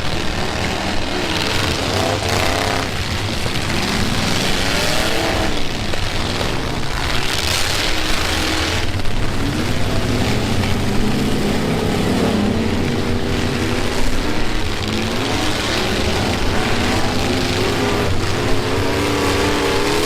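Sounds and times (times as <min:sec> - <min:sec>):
pickup truck engines revving: 0:00.0 - 0:20.0.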